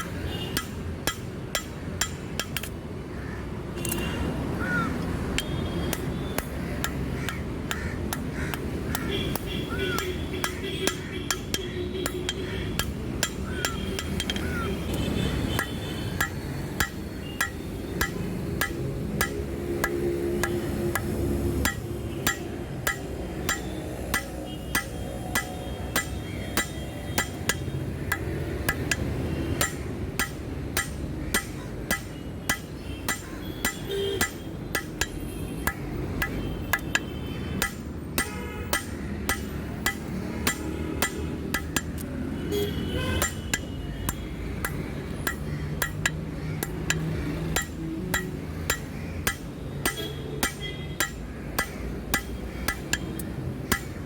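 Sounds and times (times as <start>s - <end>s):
hammer striking steel on anvil: 0.0s - 2.8s, 5.4s - 14.6s, 15.6s - 42.1s, 43.2s - 54.0s.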